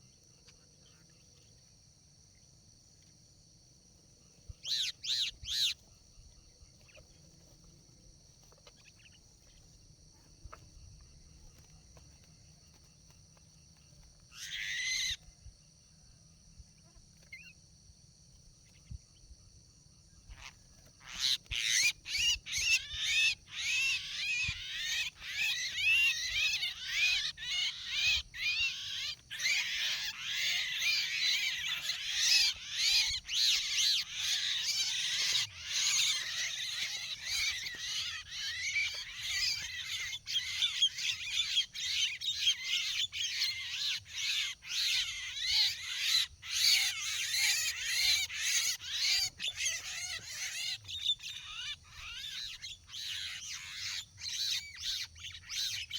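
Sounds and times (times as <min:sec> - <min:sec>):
birds chattering and squawking: 0:04.3 - 0:15.4, 0:20.2 - 0:55.9.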